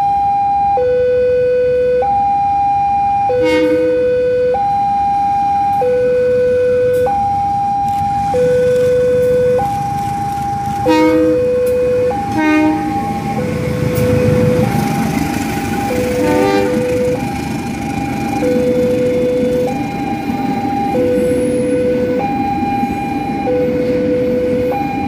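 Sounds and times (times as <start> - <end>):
two-tone level crossing alarm: 0.0 - 25.0
diesel locomotive engine rumble: 3.3 - 25.0.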